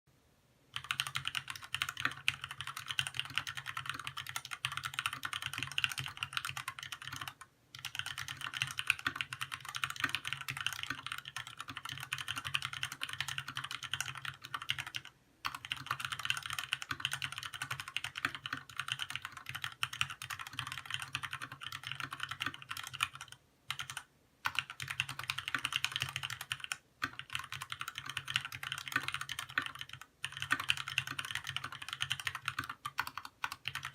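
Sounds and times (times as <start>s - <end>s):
mechanical keyboard typing: 0.7s - 33.9s.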